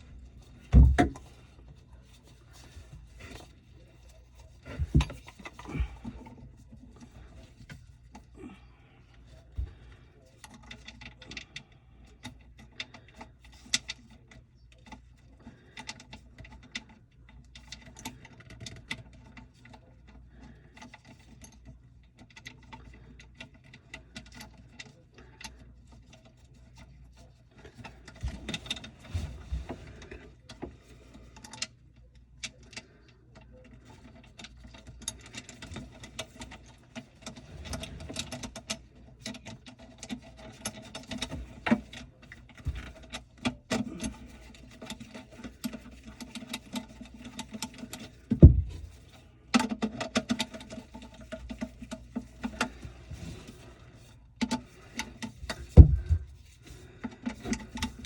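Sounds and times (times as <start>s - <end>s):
faint low hum: 0.0s - 58.0s
light clicks and rattles: 0.0s - 58.0s.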